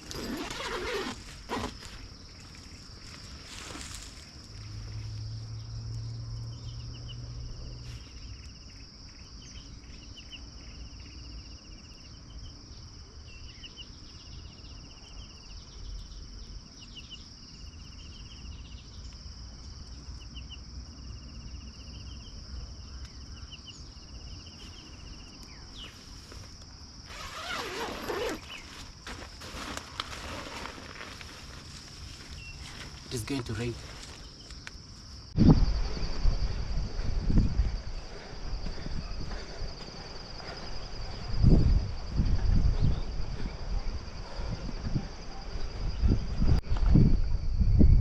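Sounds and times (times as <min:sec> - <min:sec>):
insects buzzing drone: 0:00.0 - 0:48.0.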